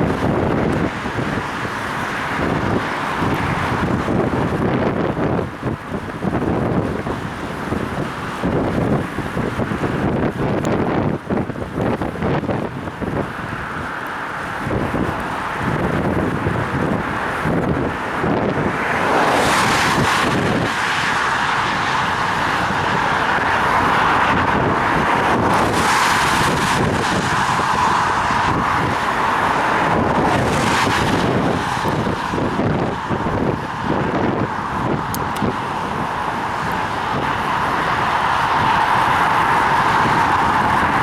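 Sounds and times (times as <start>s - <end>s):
traffic hissing on wet road: 0.0s - 41.0s
wind buffeting microphone: 0.0s - 41.0s.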